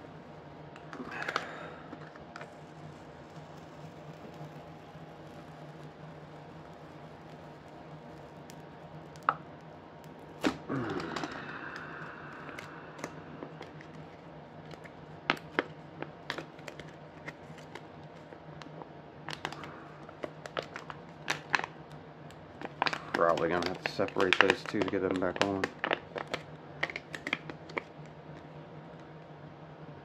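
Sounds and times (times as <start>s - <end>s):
crackling tear: 0.0s - 28.5s
low steady hum: 0.0s - 30.0s
small crinkles and clicks: 0.2s - 29.2s.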